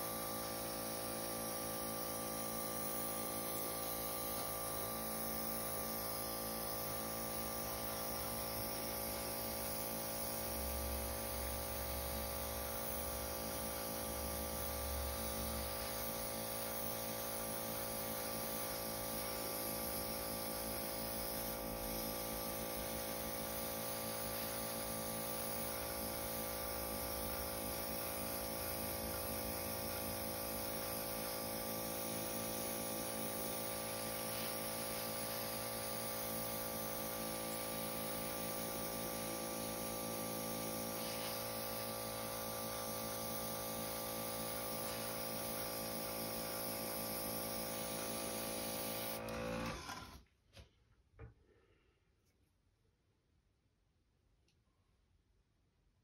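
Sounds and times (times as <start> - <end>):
airbrush hissing: 0.0 - 49.2
air compressor humming: 0.0 - 50.2.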